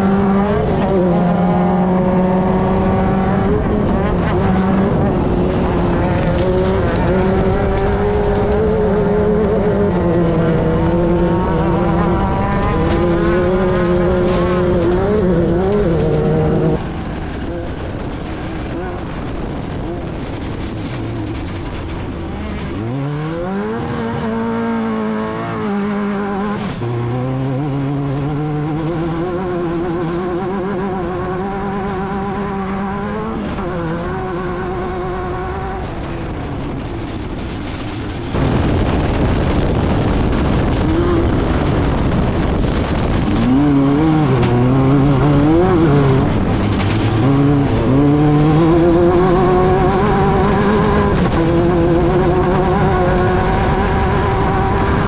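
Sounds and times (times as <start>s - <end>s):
race vehicle engine revving: 0.0s - 55.0s.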